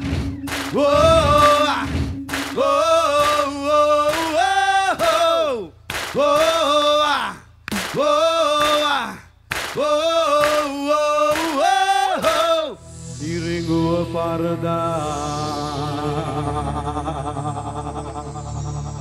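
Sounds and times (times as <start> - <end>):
men singing in harmony: 0.5 - 7.2, 9.8 - 19.0.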